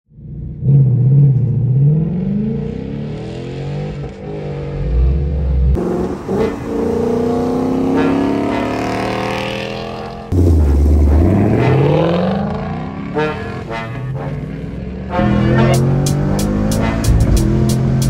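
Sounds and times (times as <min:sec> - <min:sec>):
car engine revving: 0:00.2 - 0:18.0.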